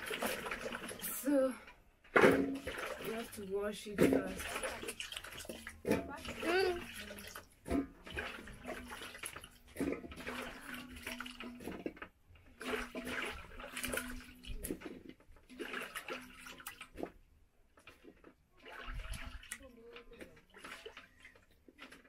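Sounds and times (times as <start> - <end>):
water splashing in a metal basin: 0.0 - 22.0.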